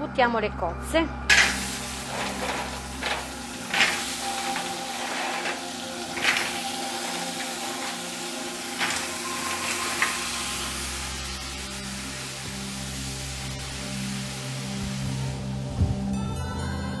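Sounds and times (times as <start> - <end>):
mussels sizzling in a frying pan: 1.3 - 16.1.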